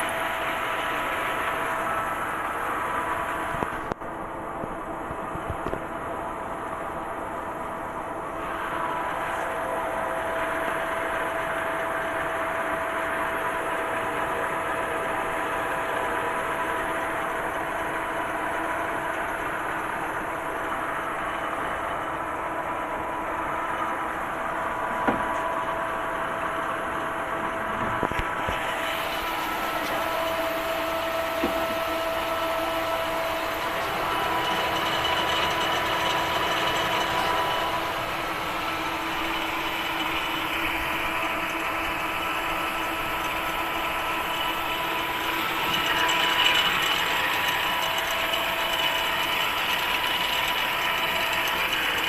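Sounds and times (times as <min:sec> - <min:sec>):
workshop machinery humming: 0:00.0 - 0:52.0
machine whining tones: 0:08.2 - 0:52.0.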